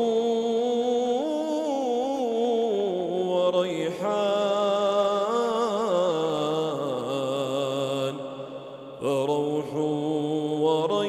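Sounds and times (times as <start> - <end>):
man chanting melodically: 0.0 - 8.4, 9.0 - 11.0.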